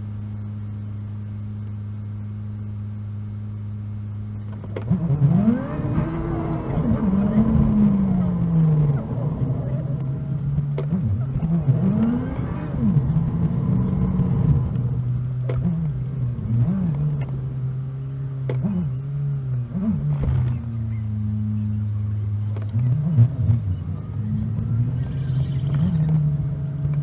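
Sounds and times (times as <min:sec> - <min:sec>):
sped-up car engine hum: 0:00.0 - 0:27.0.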